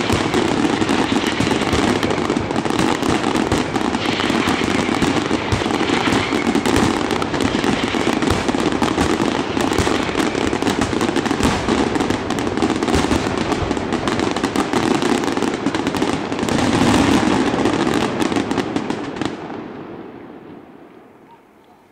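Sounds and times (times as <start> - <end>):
firework shell bursts and crackling: 0.0 - 19.5.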